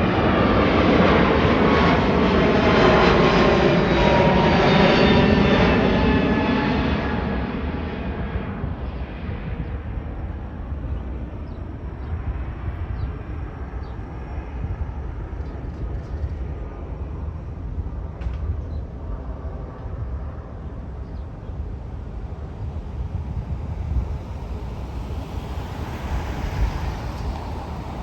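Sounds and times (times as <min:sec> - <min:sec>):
jet airliner roar: 0:00.0 - 0:28.0
steady low rumble: 0:00.0 - 0:28.0.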